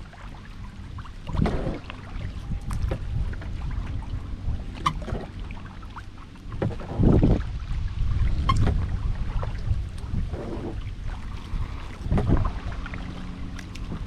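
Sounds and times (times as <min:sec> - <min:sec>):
kayak paddle splashing: 0:00.0 - 0:14.0
wind rumble on microphone: 0:00.0 - 0:14.0.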